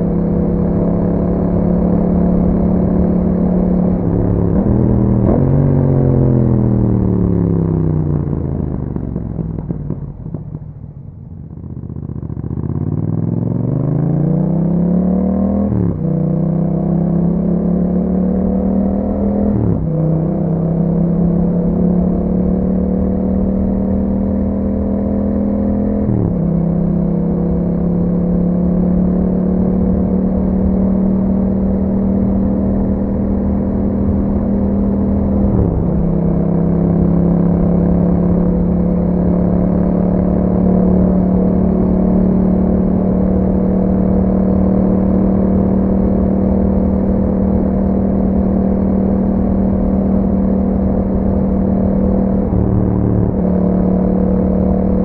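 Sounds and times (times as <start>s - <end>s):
motorcycle engine riding: 0.0s - 55.0s.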